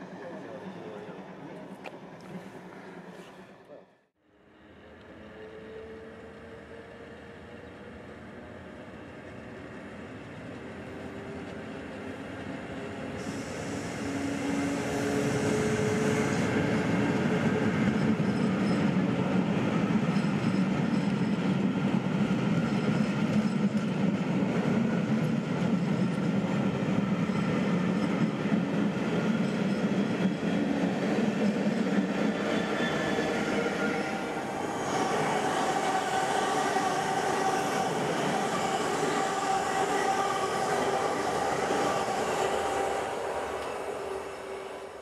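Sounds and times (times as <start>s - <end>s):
train wheels on rails: 5.0s - 45.0s.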